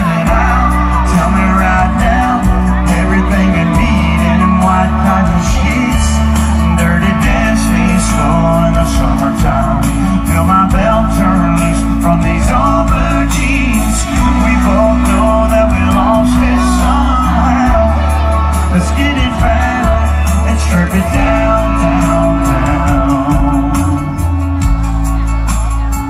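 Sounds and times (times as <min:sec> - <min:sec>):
song with vocals and band: 0:00.0 - 0:26.0.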